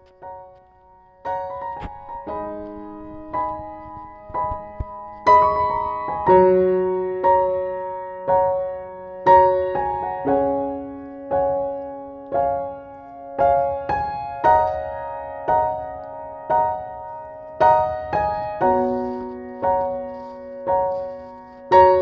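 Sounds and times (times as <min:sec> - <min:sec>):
soft piano music: 0:00.0 - 0:22.0.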